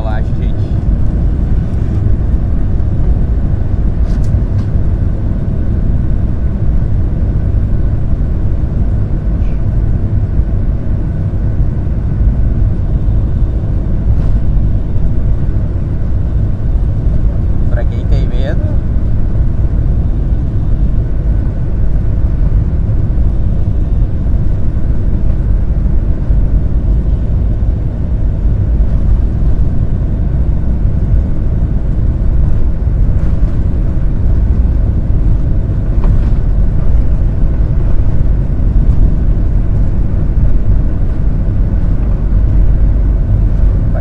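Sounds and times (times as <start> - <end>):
aircraft engines at taxi power: 0.0 - 44.0.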